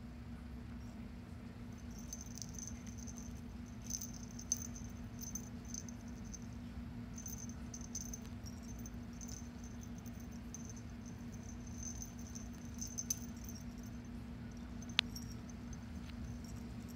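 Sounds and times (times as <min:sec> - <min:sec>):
steady low hum: 0:00.0 - 0:16.9
toy tinkling rattles: 0:01.7 - 0:16.9.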